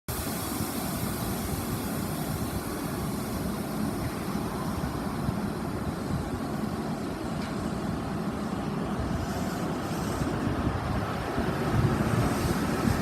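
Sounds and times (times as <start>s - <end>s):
electric train rumbling: 0.1s - 13.0s.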